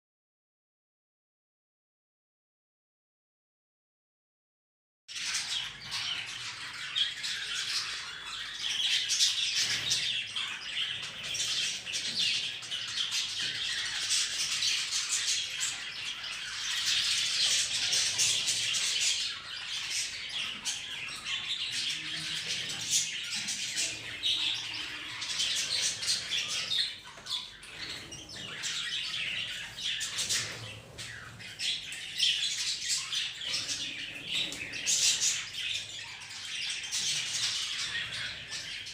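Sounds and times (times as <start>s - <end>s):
budgerigars and parrots chirping: 5.1s - 38.9s.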